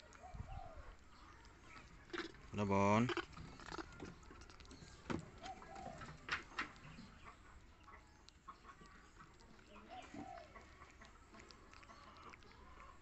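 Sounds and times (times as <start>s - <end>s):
monkeys chewing and lip-smacking: 0.0s - 13.0s.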